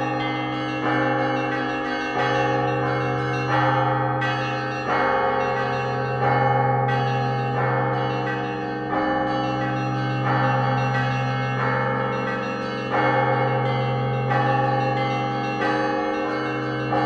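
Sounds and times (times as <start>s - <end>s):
church bells ringing: 0.0s - 17.0s
deep hum of large bell: 0.0s - 17.0s.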